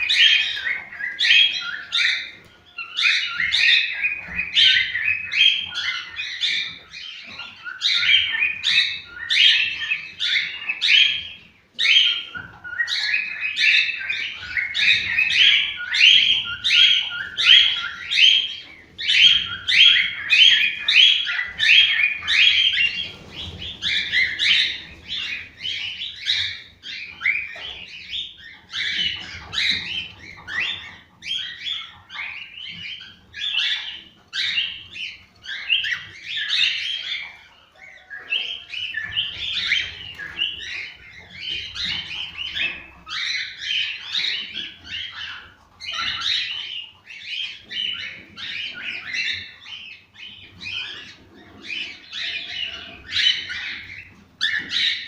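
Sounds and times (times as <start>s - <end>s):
cockatiels chirping and whistling: 0.0s - 55.0s.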